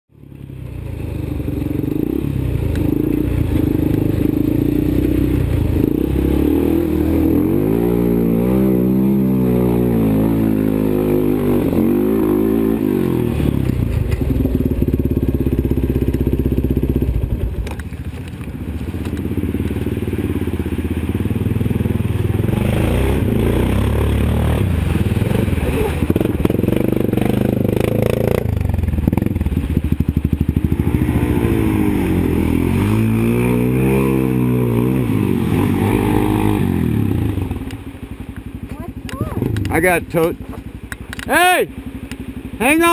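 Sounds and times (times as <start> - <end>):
quad engine revving: 0.6 - 17.4, 19.2 - 37.8, 38.7 - 40.6.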